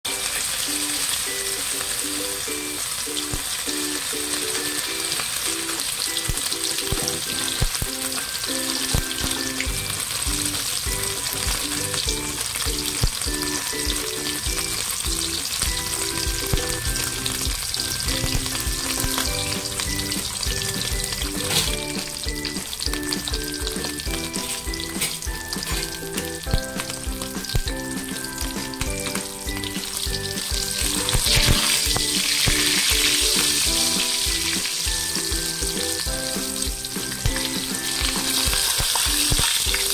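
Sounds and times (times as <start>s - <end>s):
omelette sizzling in oil: 0.1s - 39.9s.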